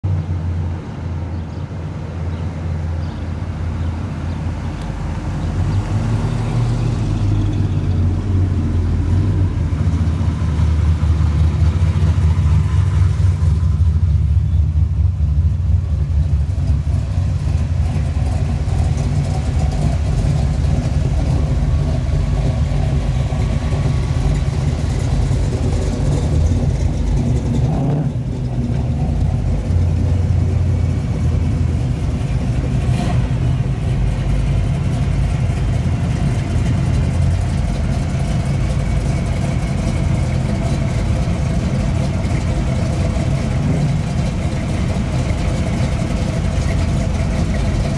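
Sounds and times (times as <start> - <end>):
cars driving past: 0.1 - 47.9.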